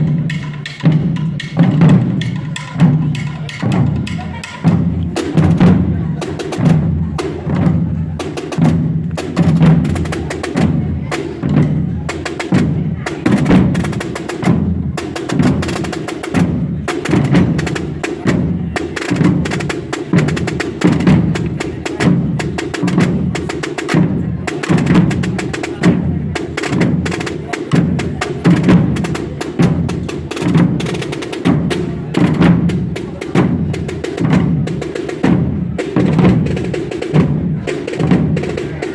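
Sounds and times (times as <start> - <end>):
drum band marching cadence: 0.0 - 38.9.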